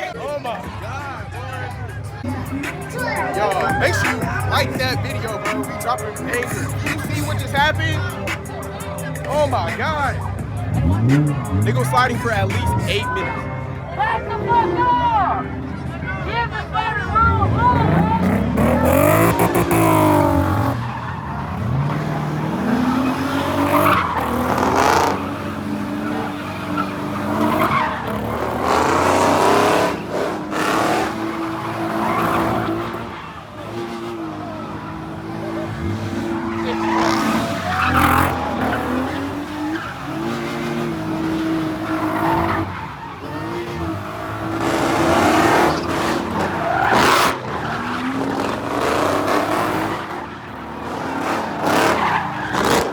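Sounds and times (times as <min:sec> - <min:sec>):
car engines revving hard: 0:00.0 - 0:52.9
tires squealing: 0:00.0 - 0:52.9.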